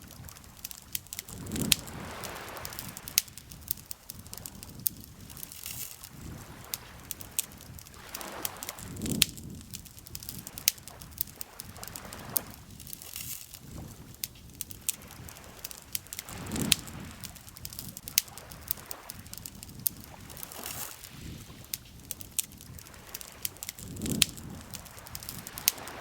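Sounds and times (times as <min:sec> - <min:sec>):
campfire crackling and popping: 0:00.0 - 0:26.0
lake water lapping: 0:00.0 - 0:26.0.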